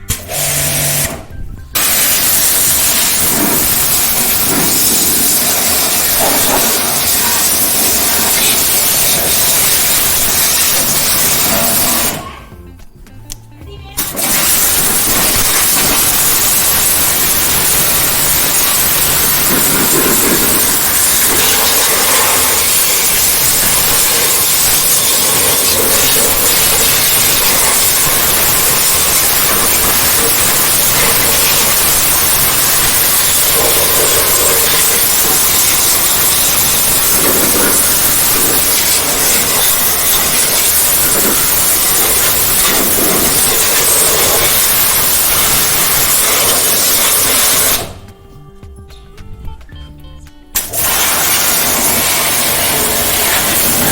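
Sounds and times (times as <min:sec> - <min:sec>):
high-pressure water jet hissing: 0:00.0 - 0:12.3, 0:14.0 - 0:48.0, 0:50.6 - 0:53.9.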